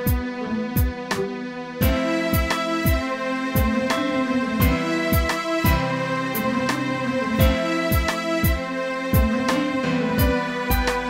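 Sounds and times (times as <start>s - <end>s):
instrumental music with deep beat: 0.0s - 11.0s.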